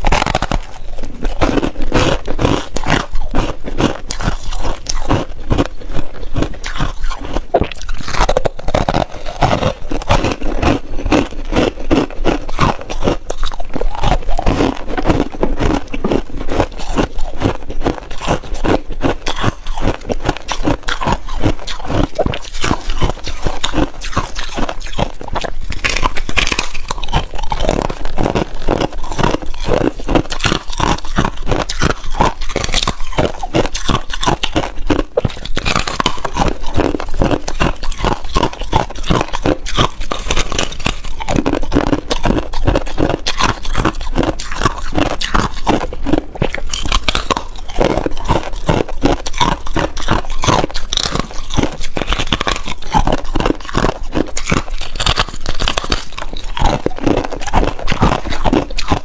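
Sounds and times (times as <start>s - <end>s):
frost being chewed crunching: 0.0s - 59.0s.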